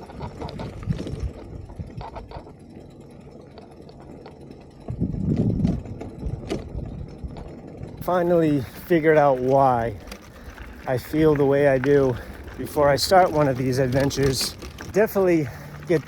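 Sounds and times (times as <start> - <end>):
bicycle rolling over rough ground: 0.0 - 16.0
rattles and clicks: 0.0 - 16.0.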